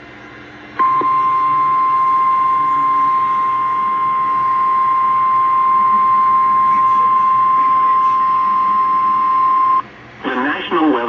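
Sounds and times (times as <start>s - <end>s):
steady high alarm tone: 0.8s - 9.8s.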